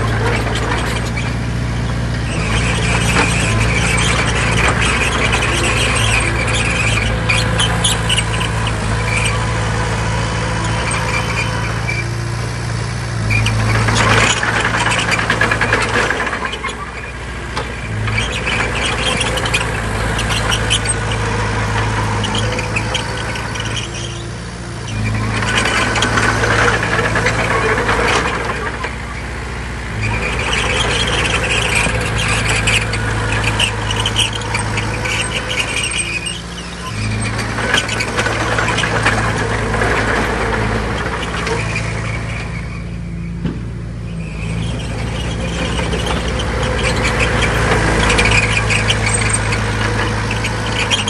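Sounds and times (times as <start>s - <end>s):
diesel engine running: 0.0s - 51.0s
metallic squealing and clanking: 0.0s - 51.0s.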